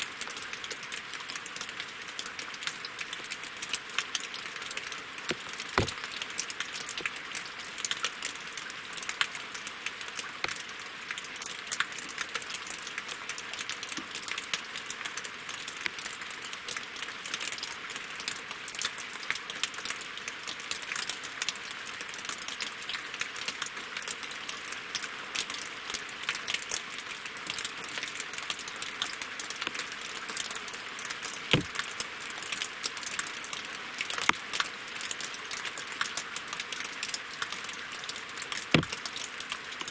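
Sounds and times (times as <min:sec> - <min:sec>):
rain falling on water and logs: 0:00.0 - 0:39.9.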